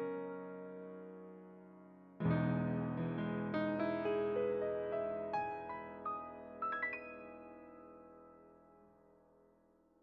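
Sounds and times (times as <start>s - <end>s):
piano music: 0.0s - 9.5s.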